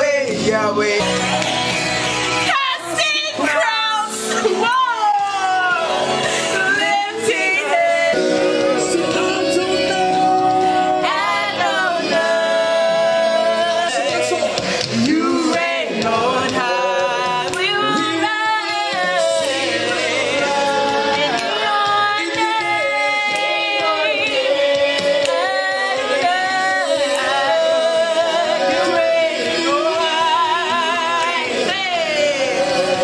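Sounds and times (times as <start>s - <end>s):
recorded gospel song: 0.0s - 33.0s
women singing along: 2.2s - 33.0s.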